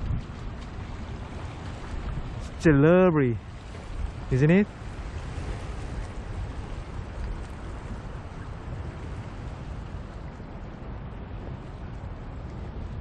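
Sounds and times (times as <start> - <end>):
sea water washing against rocks: 0.0 - 10.8
wind on microphone: 0.0 - 13.0.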